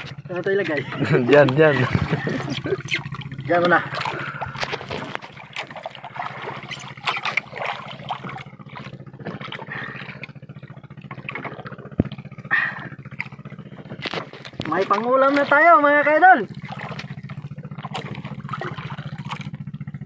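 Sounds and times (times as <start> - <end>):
distant boat engine drone: 0.0 - 20.0
water lapping: 0.0 - 20.0.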